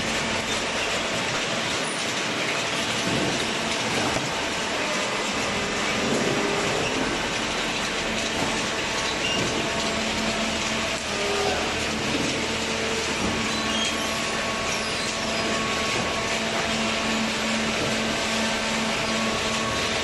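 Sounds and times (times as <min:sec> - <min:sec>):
baler machine running: 0:00.0 - 0:20.0.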